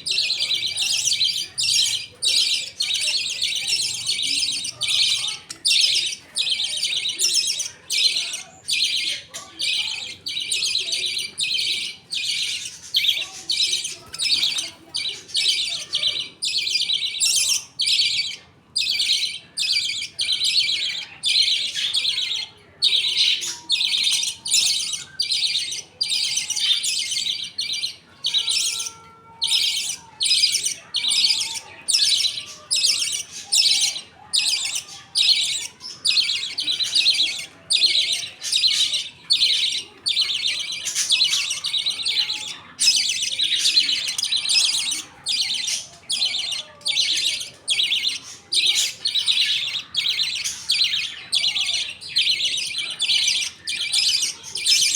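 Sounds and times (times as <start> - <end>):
budgies raspy calls: 0.0 - 54.9.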